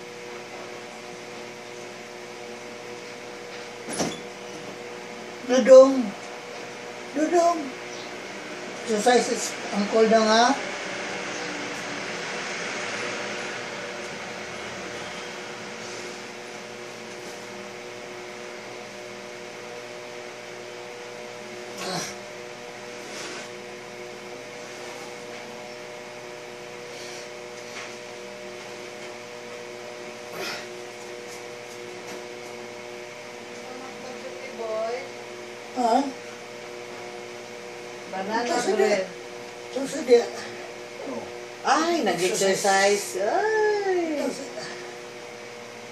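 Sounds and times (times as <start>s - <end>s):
machine hum and hiss: 0.0s - 45.9s.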